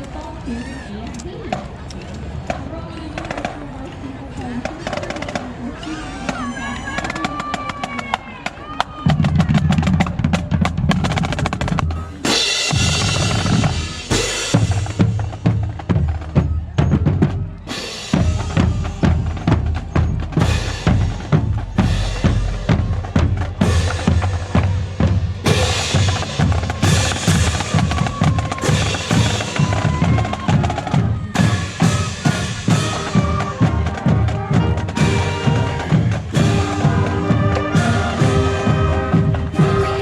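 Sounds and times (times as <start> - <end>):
drumline marching cadence: 1.0 - 40.0.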